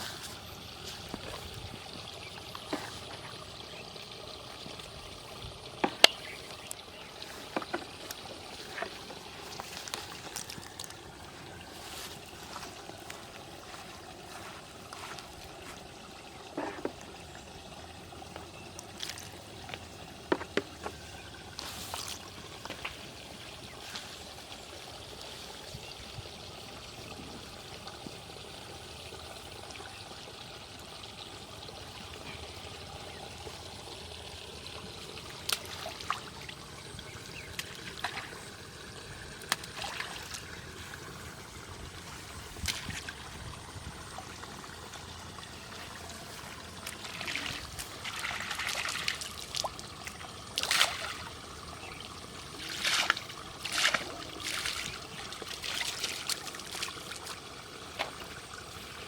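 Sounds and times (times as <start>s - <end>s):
small water splashes: 0.0s - 59.0s
water trickling: 0.0s - 59.0s.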